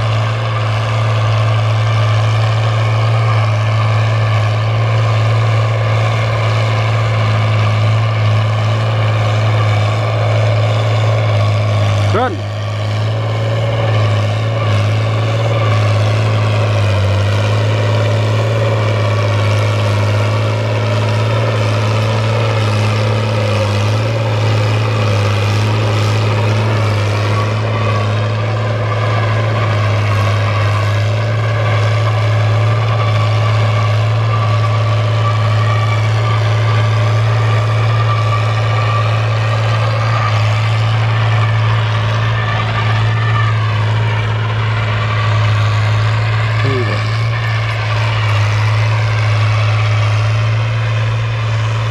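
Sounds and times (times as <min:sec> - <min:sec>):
tractor diesel engine droning: 0:00.0 - 0:51.9.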